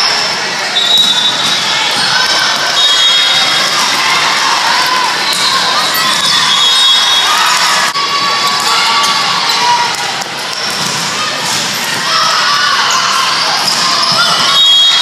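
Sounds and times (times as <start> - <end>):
people calling out in a hall: 0.0 - 15.0.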